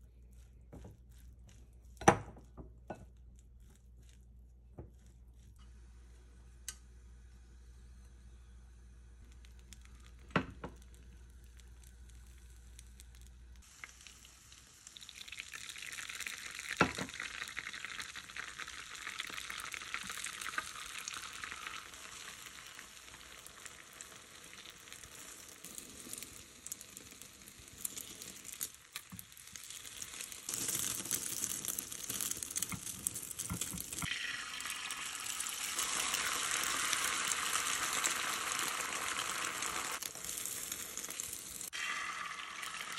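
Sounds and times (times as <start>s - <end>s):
egg sizzling in a pan: 0.7s - 42.9s.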